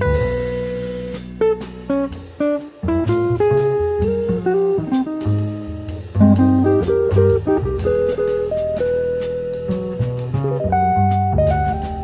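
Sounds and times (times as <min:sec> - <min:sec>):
bass part: 0:00.0 - 0:12.0
jazz guitar playing quick notes: 0:00.0 - 0:12.0.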